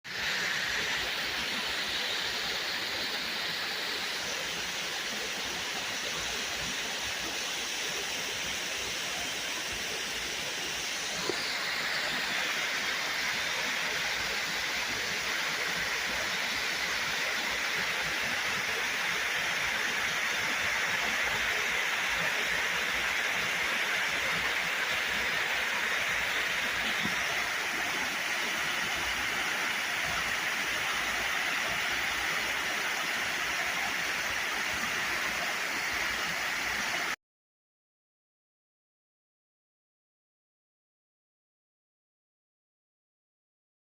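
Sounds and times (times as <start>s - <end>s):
water rushing: 0.1s - 37.2s.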